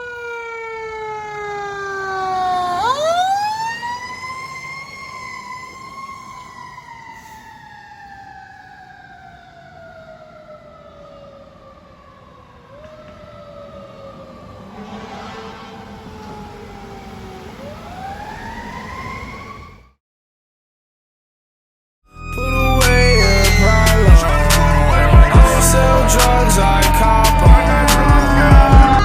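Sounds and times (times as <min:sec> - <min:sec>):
mechanical siren wailing: 0:00.0 - 0:20.0, 0:22.1 - 0:29.0.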